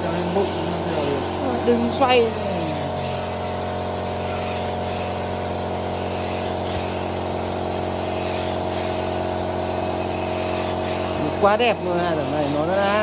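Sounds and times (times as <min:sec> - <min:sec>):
machine hum: 0:00.0 - 0:13.0
spray gun hissing: 0:00.0 - 0:13.0.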